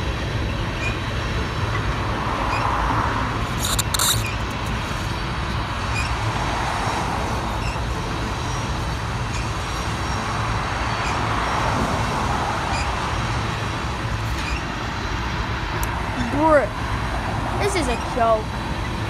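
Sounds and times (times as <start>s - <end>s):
freight cars rolling on rails: 0.0s - 19.0s.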